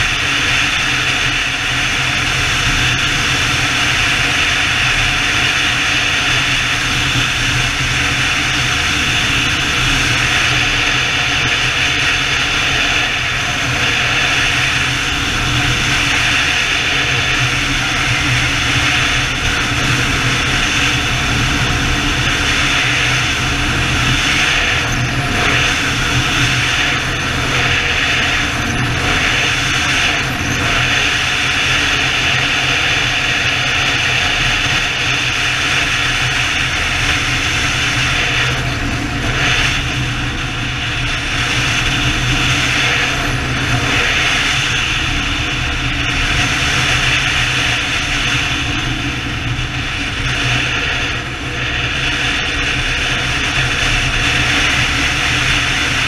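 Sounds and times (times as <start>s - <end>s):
motorcycle engine drone: 0.0s - 56.0s
wind and road noise: 0.0s - 56.0s.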